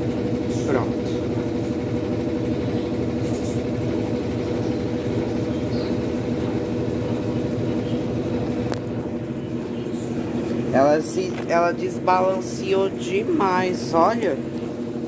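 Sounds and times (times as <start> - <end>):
washing machine humming and pulsing: 0.0 - 15.0.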